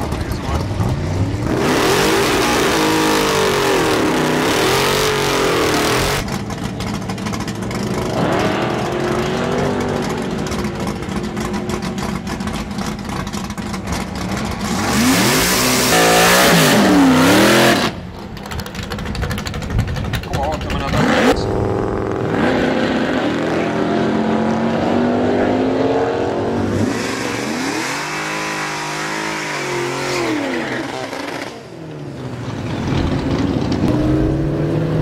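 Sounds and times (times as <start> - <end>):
drag racing engines revving: 0.0 - 35.0.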